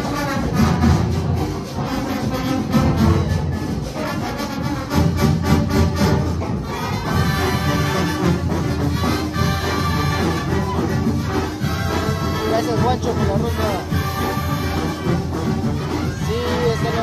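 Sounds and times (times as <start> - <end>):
drum strokes: 0.0 - 17.0
held brass notes: 0.0 - 17.0
marching band playing: 0.0 - 17.0.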